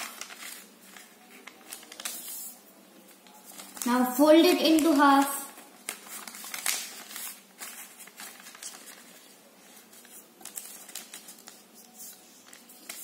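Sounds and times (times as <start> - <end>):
paper rustling and creasing: 0.0 - 13.0.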